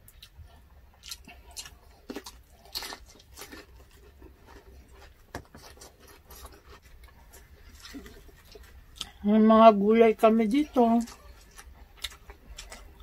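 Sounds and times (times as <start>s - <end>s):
close-miked chewing and biting: 0.0s - 9.2s, 10.4s - 13.0s.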